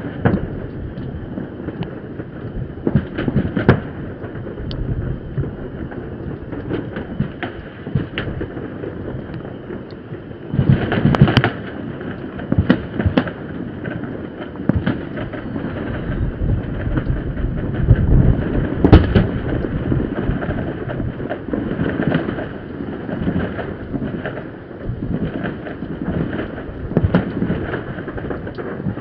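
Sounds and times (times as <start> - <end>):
fireworks bangs and crackles: 0.0 - 29.0
low rumble: 0.0 - 29.0.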